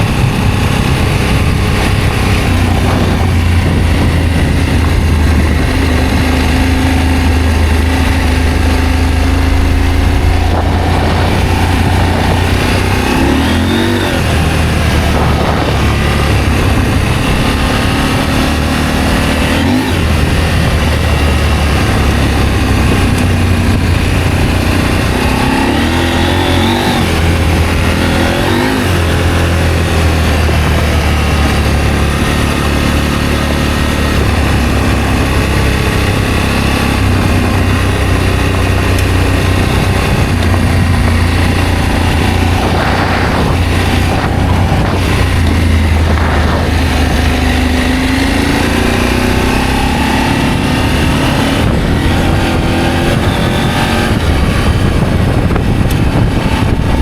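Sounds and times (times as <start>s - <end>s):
constant rushing noise: 0.0s - 57.0s
motorcycle engine revving: 0.0s - 57.0s.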